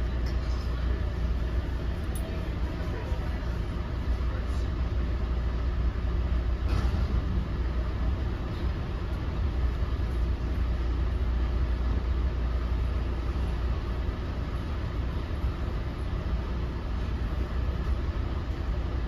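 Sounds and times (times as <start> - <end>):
train coach rumbling at speed: 0.0 - 19.0.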